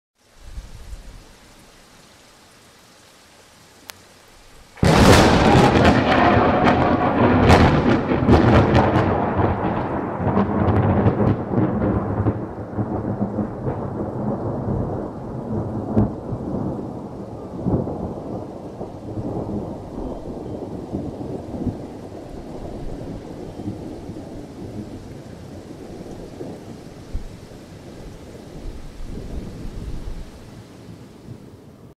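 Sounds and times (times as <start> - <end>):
light rain hiss: 0.2 - 31.9
thunder crack and rumble: 4.8 - 30.4.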